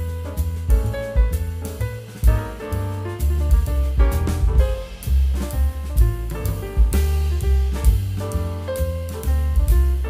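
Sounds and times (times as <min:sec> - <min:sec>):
instrumental music with drums and bass: 0:00.0 - 0:10.0.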